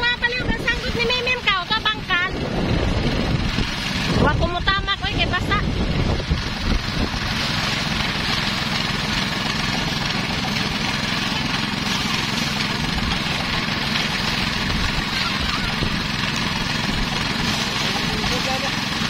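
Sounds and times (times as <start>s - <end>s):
rice thresher running: 0.0s - 19.0s
small gasoline engine: 0.0s - 19.0s.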